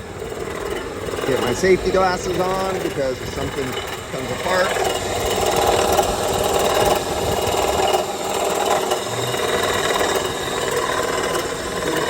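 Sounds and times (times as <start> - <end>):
compressor rattling grind: 0.0 - 12.0.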